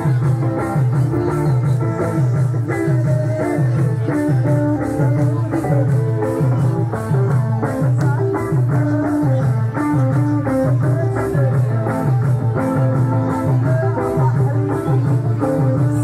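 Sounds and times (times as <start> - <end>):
dance music with plucked strings: 0.0 - 16.0.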